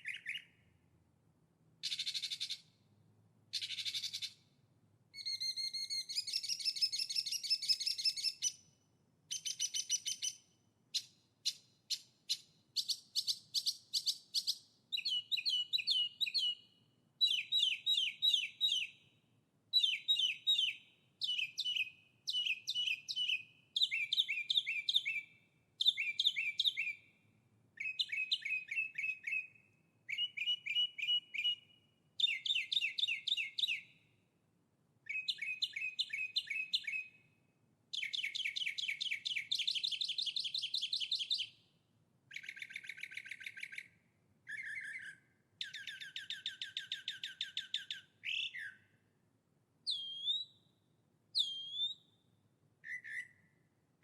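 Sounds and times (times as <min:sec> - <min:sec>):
songbird chirping: 0:00.0 - 0:01.0, 0:01.8 - 0:34.2, 0:35.0 - 0:49.2, 0:49.8 - 0:53.8.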